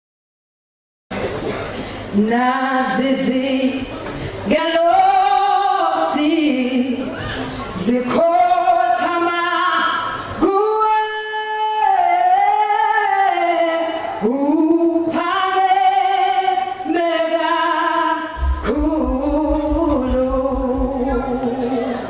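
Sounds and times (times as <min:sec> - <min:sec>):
woman singing gospel into microphone: 0:02.1 - 0:07.1, 0:07.8 - 0:22.0.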